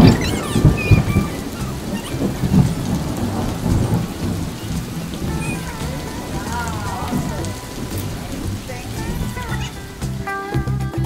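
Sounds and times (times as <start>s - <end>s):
low thunder: 0.0s - 10.2s
steady rain: 0.0s - 11.0s.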